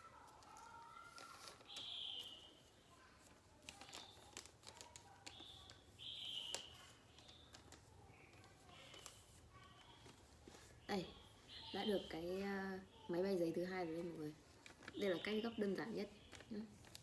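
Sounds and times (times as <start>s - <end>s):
paper rustling and creasing: 0.0s - 11.5s, 13.9s - 17.0s.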